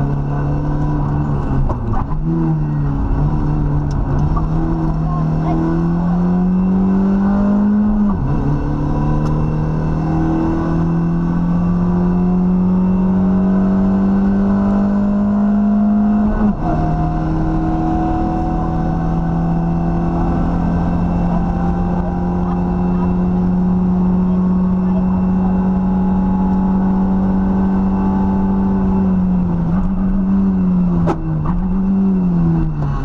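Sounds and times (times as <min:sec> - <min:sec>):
rally car engine accelerating: 0:00.0 - 0:33.0.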